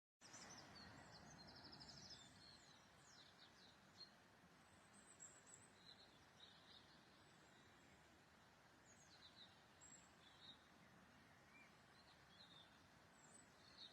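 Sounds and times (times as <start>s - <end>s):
faint songbirds singing: 0.2s - 13.9s
soft background hiss: 0.2s - 13.9s.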